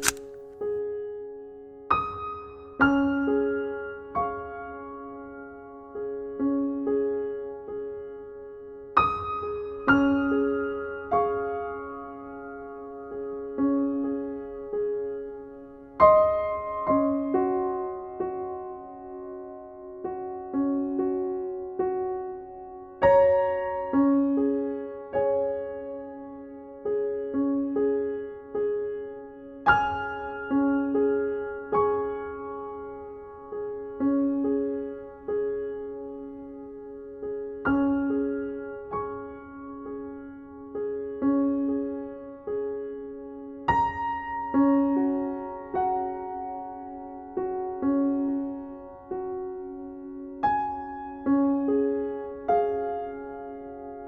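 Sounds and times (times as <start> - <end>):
slow gentle piano music: 0.0 - 54.0.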